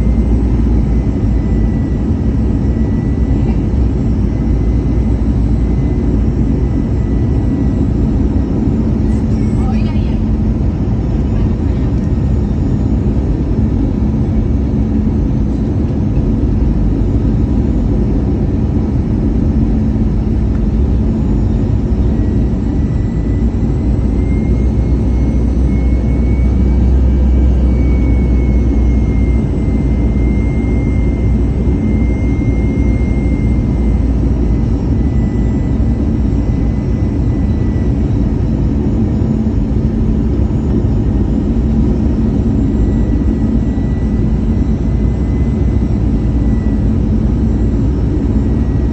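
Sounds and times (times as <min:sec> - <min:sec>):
airplane cabin engine rumble: 0:00.0 - 0:48.9
faint high engine whine: 0:00.0 - 0:48.9.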